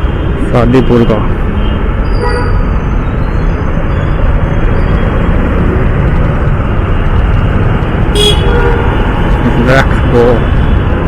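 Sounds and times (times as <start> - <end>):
motorcycle road noise: 0.0 - 11.0.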